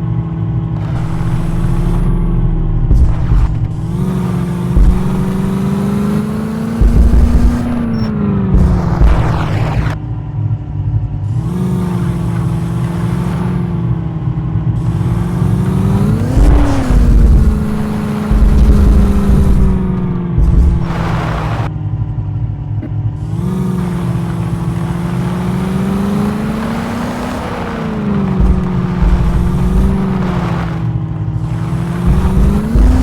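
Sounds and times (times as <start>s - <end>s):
jeep engine revving: 0.8s - 33.0s.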